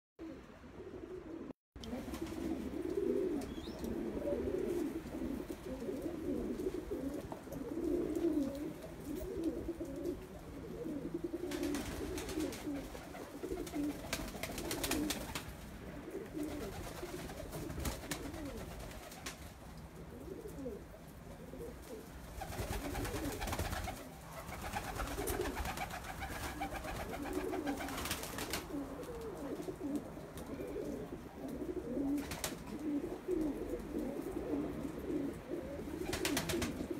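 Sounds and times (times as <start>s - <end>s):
pigeons cooing: 0.2s - 19.3s, 20.0s - 36.9s.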